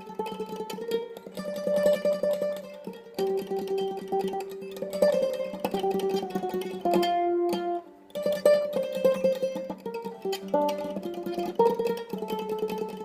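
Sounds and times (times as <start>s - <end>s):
mandolin tremolo melody: 0.0s - 13.0s.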